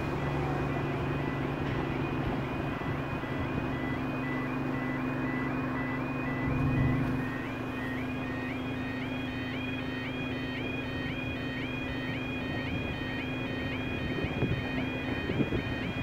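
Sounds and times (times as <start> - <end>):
warbling crossing alarms: 0.0 - 16.0.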